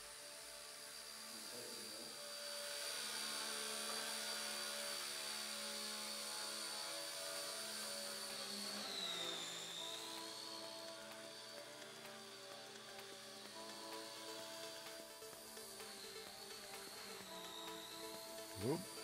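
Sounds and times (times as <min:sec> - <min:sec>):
high-pitched motor whine: 0:00.0 - 0:19.0.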